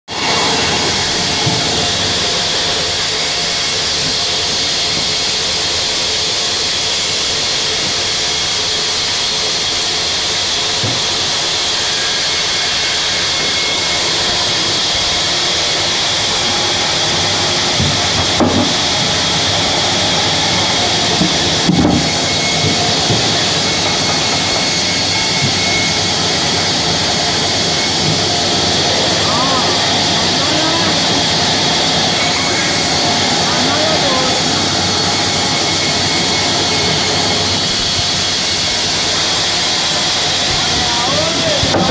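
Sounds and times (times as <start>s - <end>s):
band saw cutting log: 0.1s - 41.9s.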